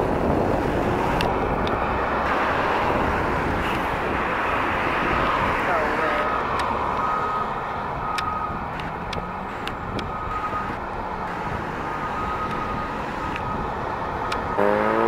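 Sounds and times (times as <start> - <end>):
diesel truck engines running: 0.0 - 15.0
passing road traffic: 0.0 - 15.0.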